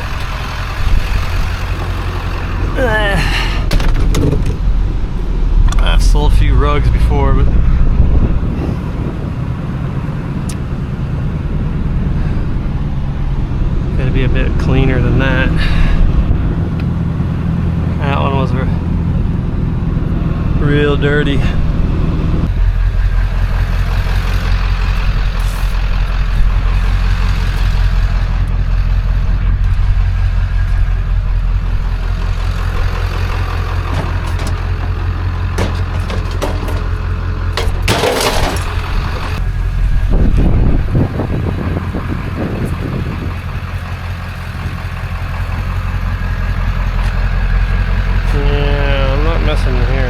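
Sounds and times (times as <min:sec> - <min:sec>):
vehicle engine humming: 0:00.0 - 0:50.0.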